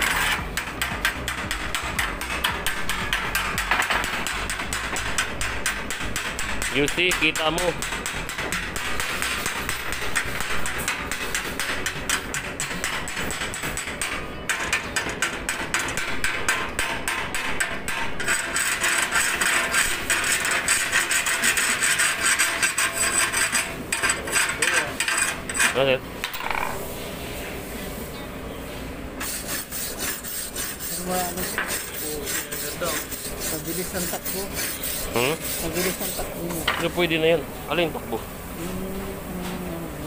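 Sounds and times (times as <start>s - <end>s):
scraping over weld bead: 0.0s - 27.1s, 29.2s - 37.4s.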